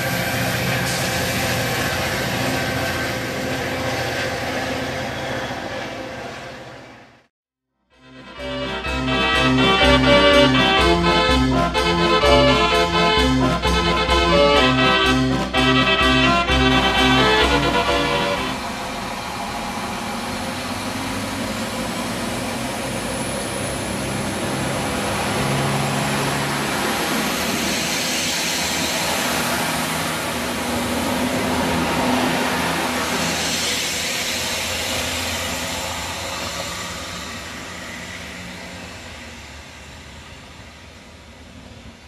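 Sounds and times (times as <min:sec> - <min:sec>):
diesel train passing: 0:00.0 - 0:07.3, 0:08.0 - 0:42.0.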